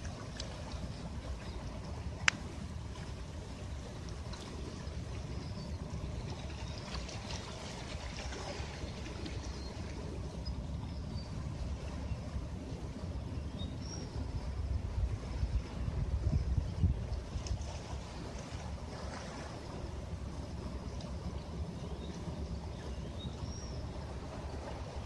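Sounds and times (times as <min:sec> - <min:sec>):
sea waves washing at shore: 0:00.0 - 0:25.0.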